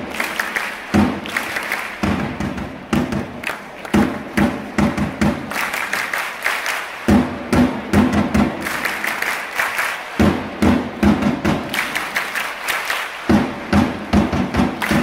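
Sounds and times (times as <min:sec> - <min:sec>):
drums beating a quick rhythm: 0:00.0 - 0:06.0, 0:07.0 - 0:09.3, 0:10.1 - 0:12.4, 0:13.2 - 0:15.0.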